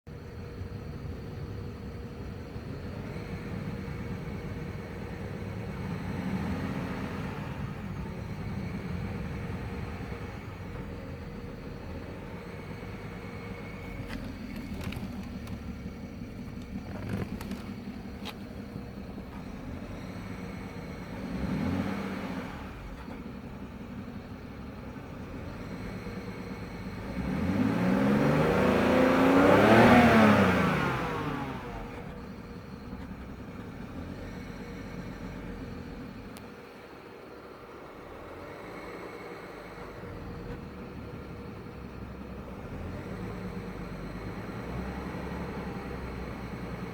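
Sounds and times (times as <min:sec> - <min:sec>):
car engine running: 0:00.1 - 0:46.9.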